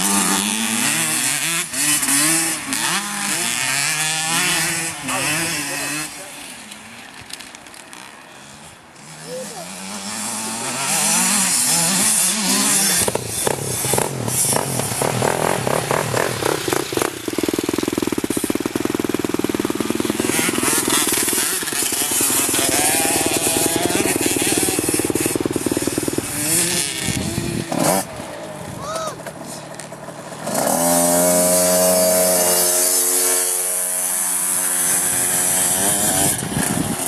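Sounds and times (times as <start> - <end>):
dirt bike engine revving: 0.0 - 28.8, 30.1 - 37.0.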